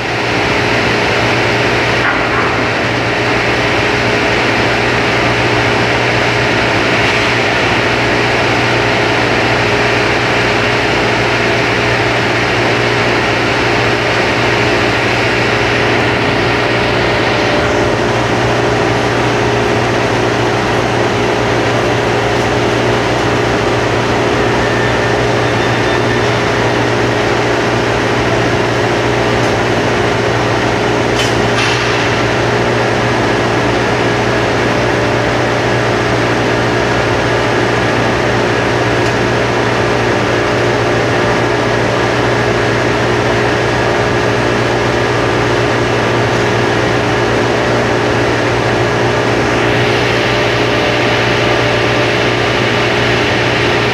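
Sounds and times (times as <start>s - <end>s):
industrial machinery drone: 0.0s - 53.9s.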